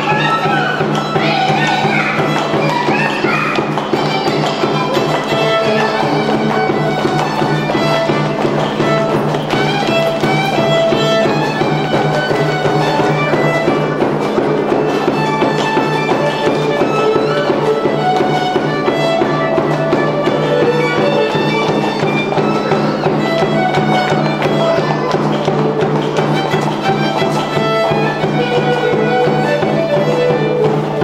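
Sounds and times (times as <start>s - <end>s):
hand drum: 0.0s - 31.0s
violin melody: 0.0s - 31.0s.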